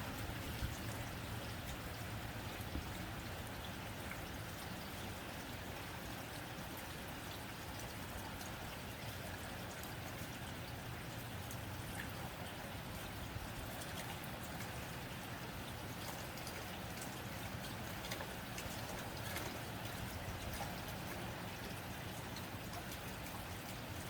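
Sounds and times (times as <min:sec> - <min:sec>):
rain on a tin roof: 0:00.0 - 0:24.0.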